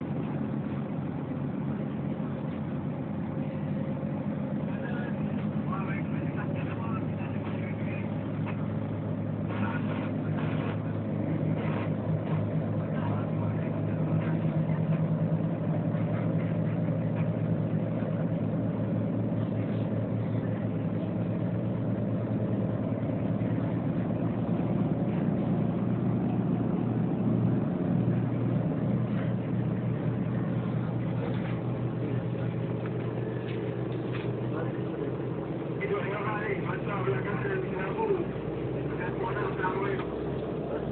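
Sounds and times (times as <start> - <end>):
ferry engines droning: 0.0 - 40.9.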